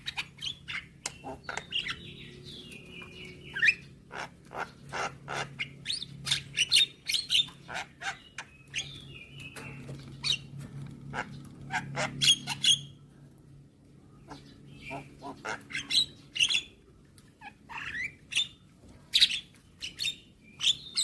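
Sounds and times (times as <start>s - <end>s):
myna bird singing chatter: 0.0s - 13.3s, 13.9s - 21.0s
steady low hum: 0.0s - 21.0s.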